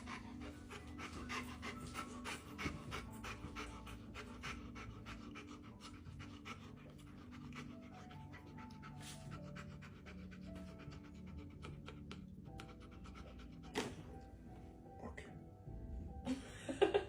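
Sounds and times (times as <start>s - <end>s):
dog panting: 0.0s - 14.7s.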